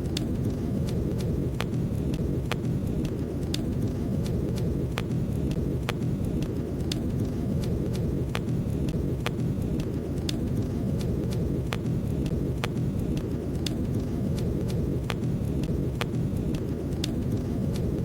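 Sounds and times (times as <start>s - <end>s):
low rumble of flames: 0.0s - 18.0s
wood fire pops and snaps: 0.1s - 18.0s.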